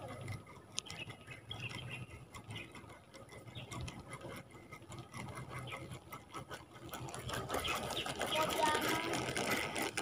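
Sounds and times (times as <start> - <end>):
fishing reel clicking and whirring: 0.0 - 10.0.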